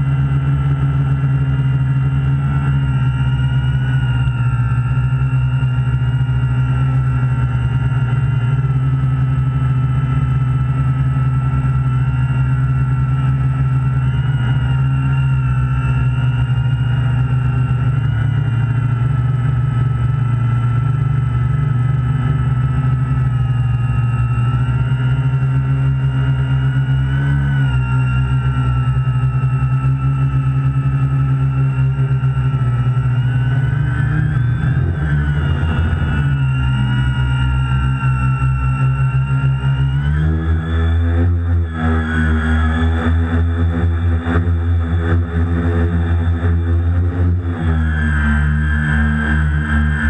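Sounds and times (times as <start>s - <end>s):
drone motors and propellers buzzing: 0.0s - 50.0s.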